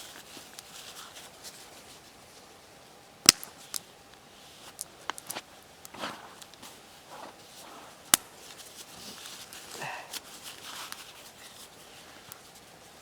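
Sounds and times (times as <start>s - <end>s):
soft rustling: 0.0s - 2.8s, 3.6s - 13.0s
campfire wood crackling: 0.0s - 13.0s.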